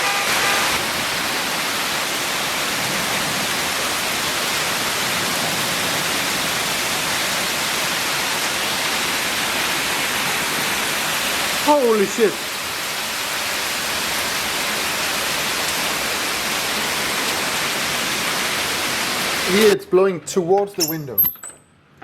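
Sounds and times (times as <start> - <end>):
heavy hail and rain pouring: 0.0 - 19.8.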